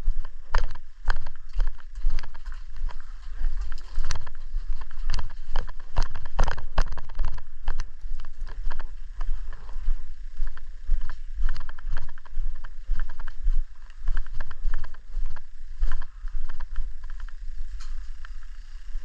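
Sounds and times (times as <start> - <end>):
footsteps: 0.0 - 18.4
wind rumble: 0.0 - 19.0
kit rattling: 0.1 - 19.0.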